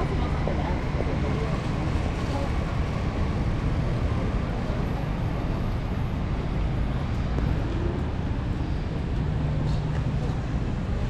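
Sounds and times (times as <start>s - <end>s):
traffic on wet roads: 0.0s - 11.0s.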